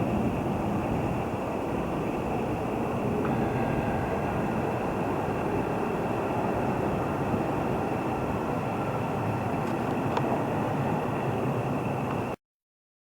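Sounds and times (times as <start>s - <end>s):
faint steady whine: 0.0s - 12.4s
train running: 0.0s - 12.4s.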